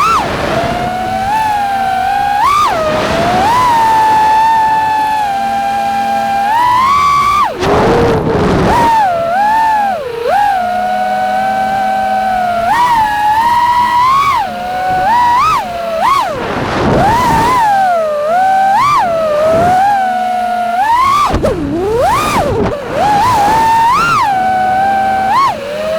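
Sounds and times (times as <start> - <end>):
drone motors whining: 0.0 - 25.9.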